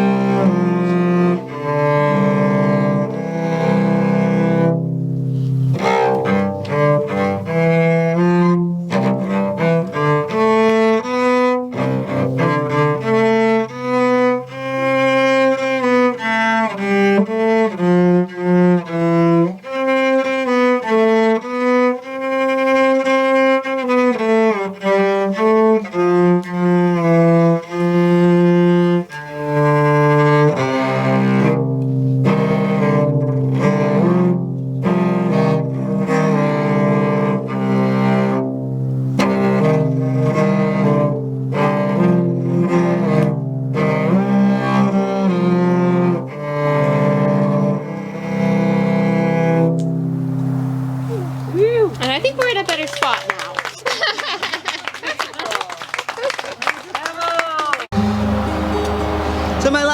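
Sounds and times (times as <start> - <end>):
low cello-like line: 0.0 - 52.6, 57.9 - 59.9
bowed string instruments: 0.0 - 55.5, 57.8 - 59.9.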